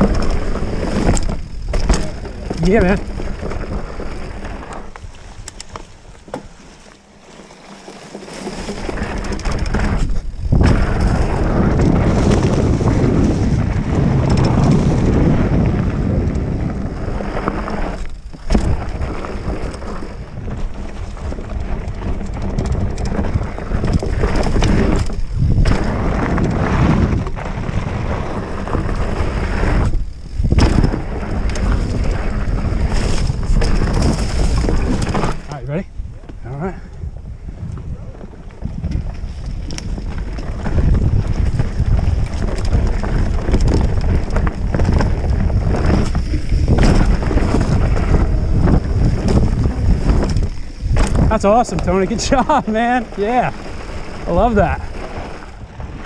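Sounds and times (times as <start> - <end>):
wind buffeting microphone: 8.5 - 56.0.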